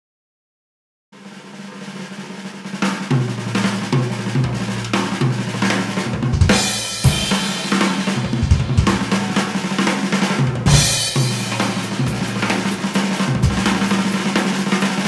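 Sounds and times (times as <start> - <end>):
acoustic drum kit playing: 1.2 - 15.0.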